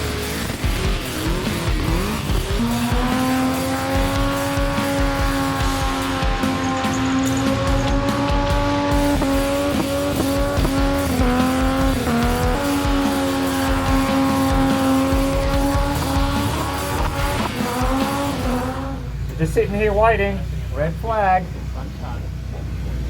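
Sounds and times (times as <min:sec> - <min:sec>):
car engine revving high: 0:00.0 - 0:23.0
spinning tyres squealing: 0:00.0 - 0:23.0.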